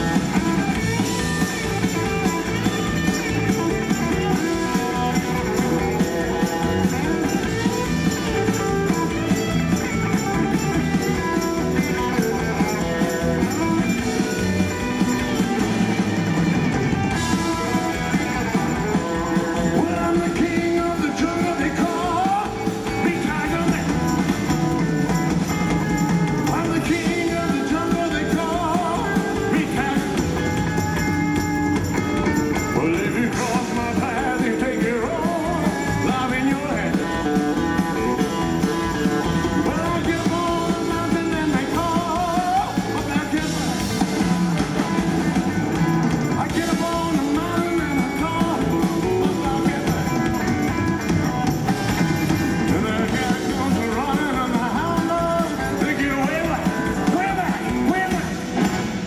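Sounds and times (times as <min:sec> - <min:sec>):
drum kit beat: 0:00.0 - 0:59.0
electric bass: 0:00.0 - 0:59.0
electric guitars: 0:00.0 - 0:59.0
man singing with vibrato: 0:00.0 - 0:59.0
rock and roll band playing: 0:00.0 - 0:59.0.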